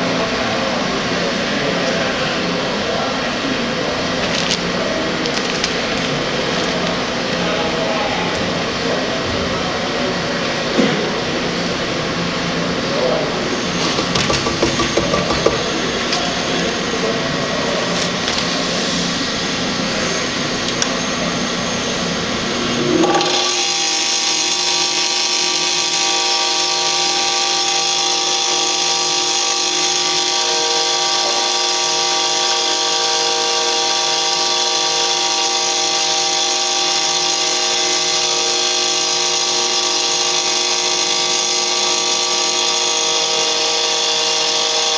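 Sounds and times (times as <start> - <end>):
grinder running: 0.0 - 9.1, 10.1 - 44.9.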